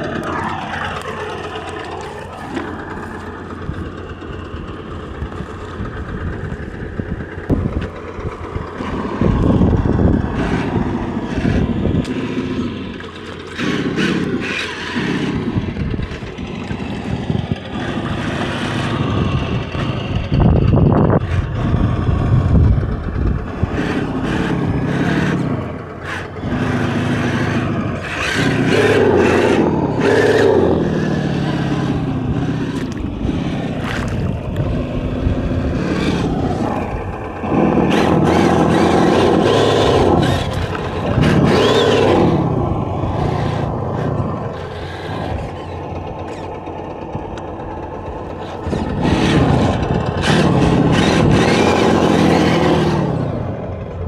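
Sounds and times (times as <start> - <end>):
tyres clicking and scraping: 0.0 - 22.0, 23.3 - 54.0
electric motor whining: 0.0 - 54.0.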